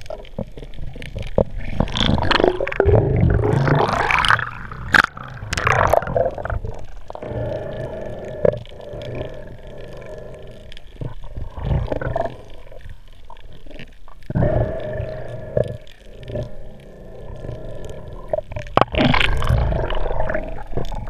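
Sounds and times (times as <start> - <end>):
muffled underwater water rushing: 0.0 - 21.0
steady underwater hum: 0.0 - 21.0.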